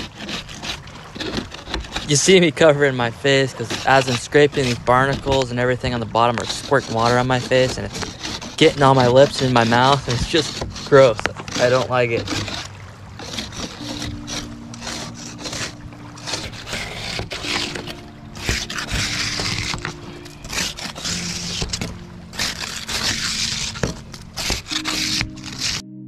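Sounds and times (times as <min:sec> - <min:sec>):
scraper scraping boat hull: 0:00.0 - 0:25.9.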